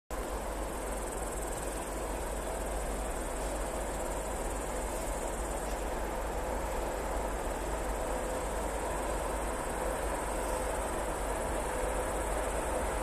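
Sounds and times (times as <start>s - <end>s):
insects chirring: 0.2s - 13.0s.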